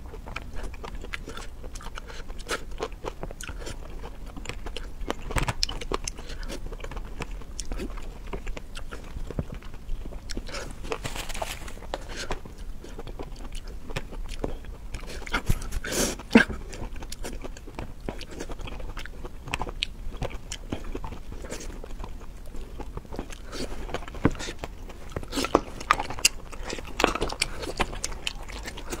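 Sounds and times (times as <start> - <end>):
biting and chewing seafood: 0.0 - 29.0.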